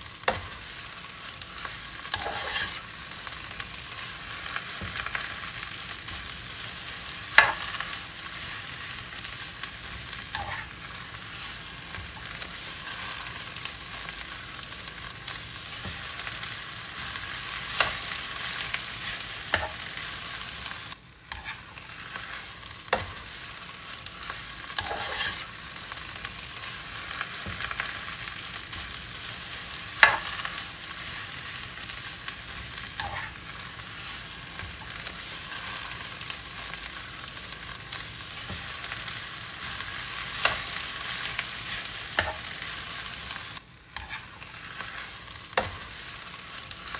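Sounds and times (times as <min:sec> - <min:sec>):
food sizzling in oil: 0:00.0 - 0:46.9.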